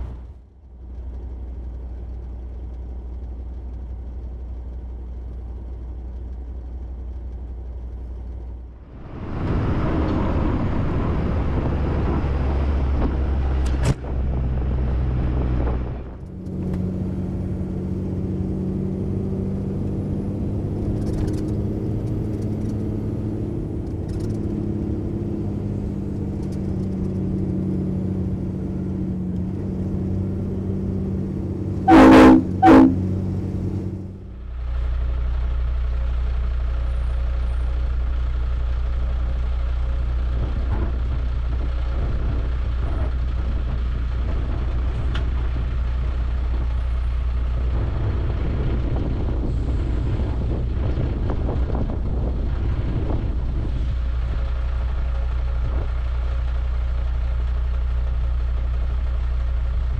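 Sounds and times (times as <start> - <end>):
road noise: 0.0 - 59.9
truck diesel engine running: 0.0 - 59.9.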